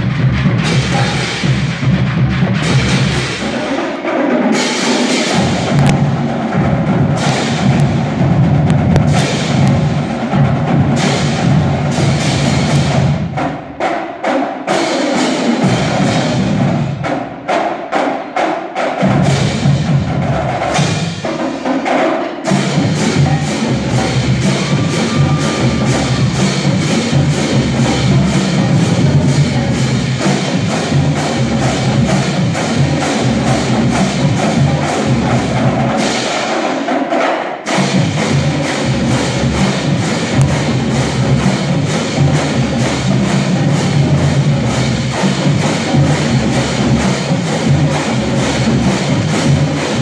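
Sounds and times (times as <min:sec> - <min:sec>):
cymbals: 0:00.0 - 0:50.0
drumline playing snare drums: 0:00.0 - 0:50.0.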